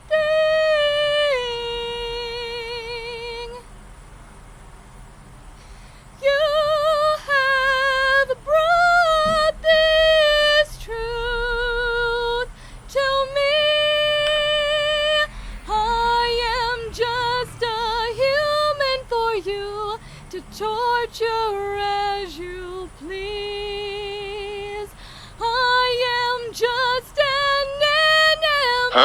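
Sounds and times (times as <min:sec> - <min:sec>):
woman singing wordless melody: 0:00.0 - 0:03.9, 0:05.7 - 0:29.0.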